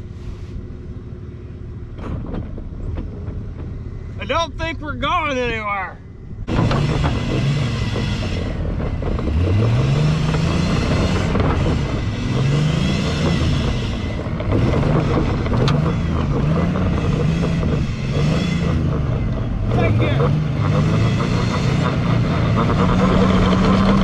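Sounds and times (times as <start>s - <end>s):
truck engine revving: 1.6s - 24.0s.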